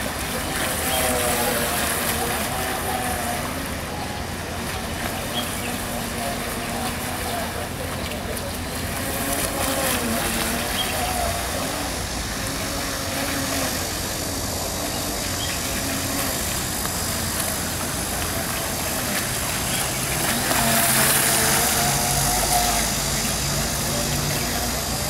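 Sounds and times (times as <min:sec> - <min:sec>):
toy speed boat motor whining: 0:00.0 - 0:25.0.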